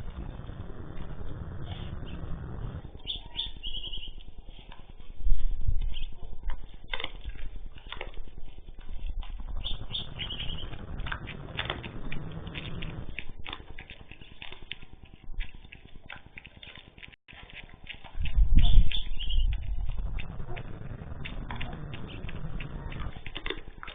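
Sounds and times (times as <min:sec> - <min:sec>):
low rumble: 0:00.0 - 0:16.4, 0:18.0 - 0:23.9
animals foraging and rustling: 0:00.0 - 0:23.9.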